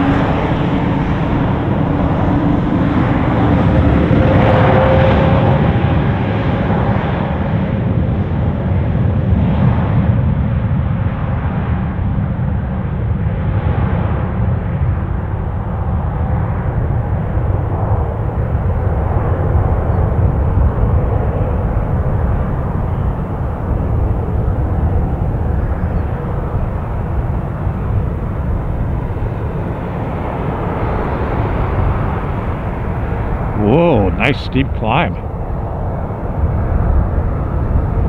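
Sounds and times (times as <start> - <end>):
jet engine rumble: 0.0 - 38.0.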